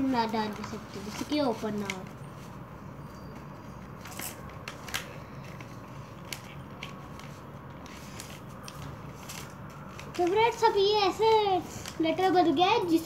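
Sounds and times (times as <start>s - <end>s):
paper crackling and creasing: 0.0s - 2.6s, 3.8s - 13.0s.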